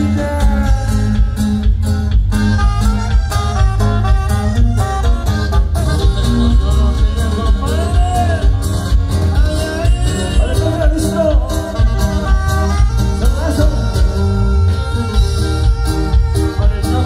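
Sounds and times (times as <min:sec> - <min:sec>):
accordion: 0:00.0 - 0:17.0
band playing: 0:00.0 - 0:17.0.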